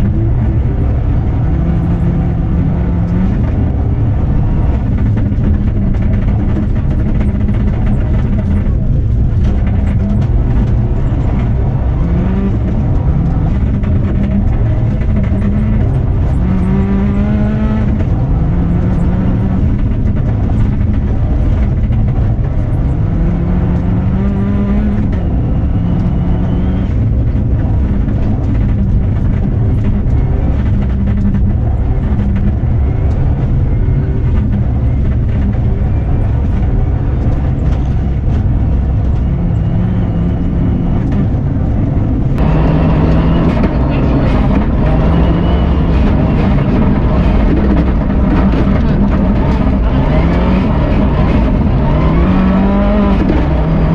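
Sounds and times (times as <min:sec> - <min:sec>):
car engine accelerating: 0:00.0 - 0:53.9
low rumble: 0:00.0 - 0:53.9.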